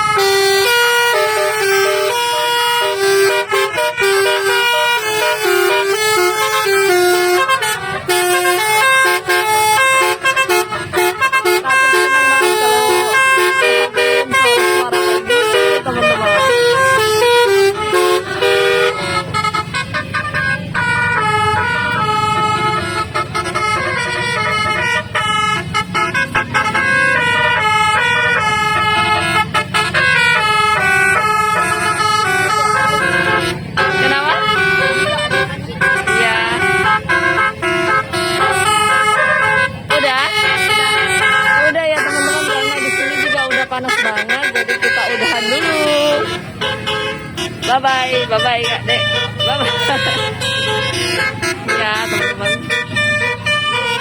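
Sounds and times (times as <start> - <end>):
musical vehicle horns: 0.0 - 54.0
vehicle engine running: 0.0 - 54.0.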